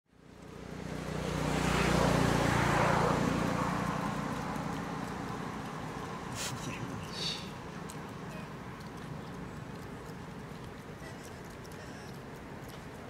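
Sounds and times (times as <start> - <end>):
vehicle engine hum passing: 0.1 - 13.0.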